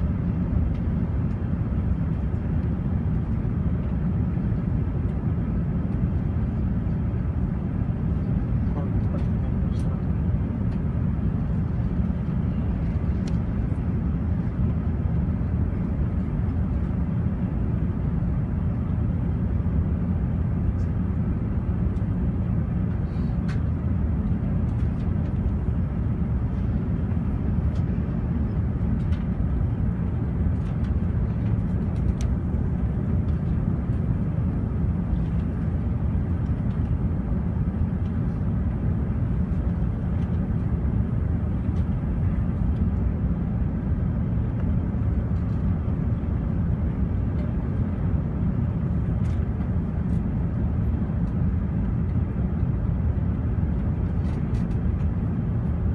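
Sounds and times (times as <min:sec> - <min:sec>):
airplane cabin rumble: 0:00.0 - 0:55.9.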